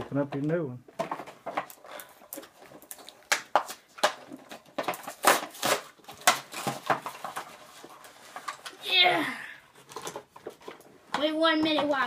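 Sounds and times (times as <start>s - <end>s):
rustles of toy packaging: 0.1s - 12.0s
clicks of handling toys: 0.3s - 8.8s, 9.8s - 12.0s.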